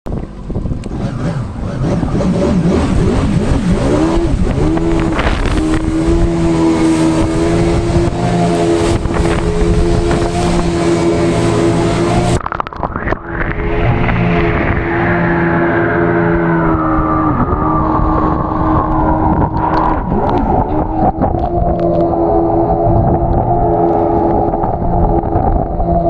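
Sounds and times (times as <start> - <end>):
jet ski engine running hard: 0.1 - 12.4, 13.2 - 26.0
rush of water and wind: 0.1 - 26.0.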